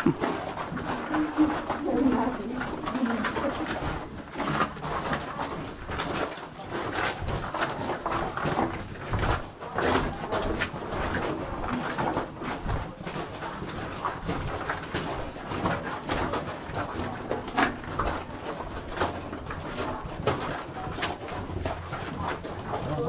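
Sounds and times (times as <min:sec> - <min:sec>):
footsteps on stone and gravel: 0:00.0 - 0:23.0.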